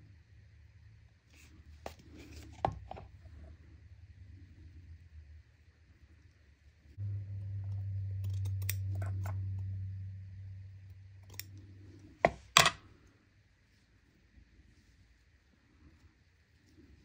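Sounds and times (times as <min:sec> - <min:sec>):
low hum: 0:03.1 - 0:17.0.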